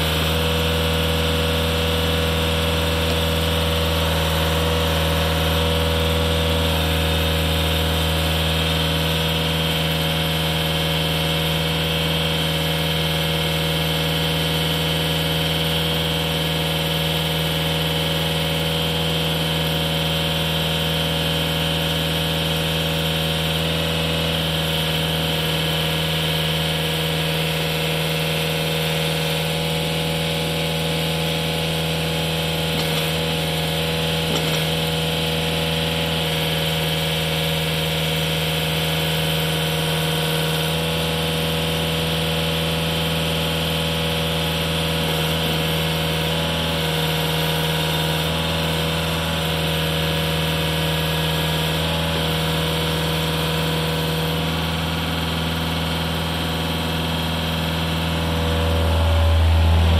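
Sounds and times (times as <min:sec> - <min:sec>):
trencher engine running: 0:00.0 - 0:59.9.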